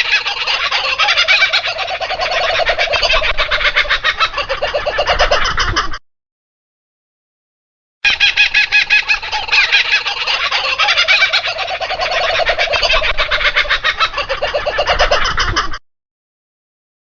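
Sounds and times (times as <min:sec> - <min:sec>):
chickens clucking rapidly: 0:00.0 - 0:06.0, 0:08.1 - 0:15.8.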